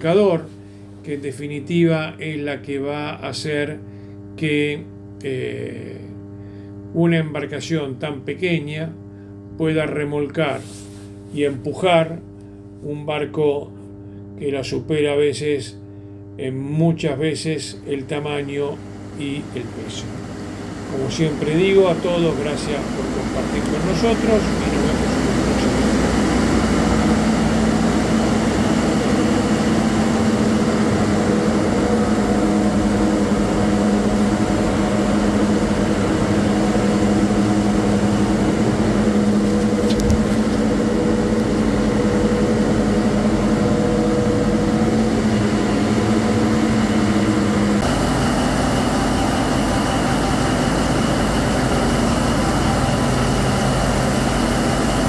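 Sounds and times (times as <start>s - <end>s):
diesel engine room drone: 0.0s - 55.0s.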